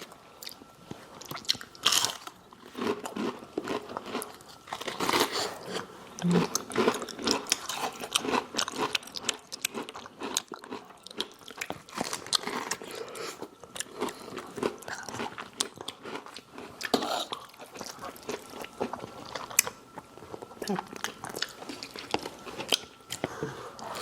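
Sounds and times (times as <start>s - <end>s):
chewing crispy food crunches: 0.0s - 23.4s.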